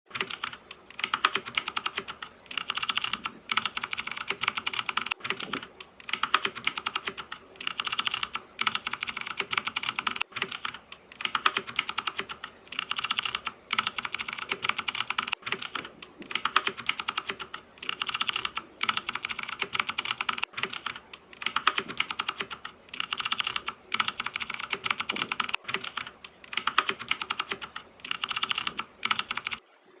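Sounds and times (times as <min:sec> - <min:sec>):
fast typing on keyboard: 0:00.1 - 0:29.6.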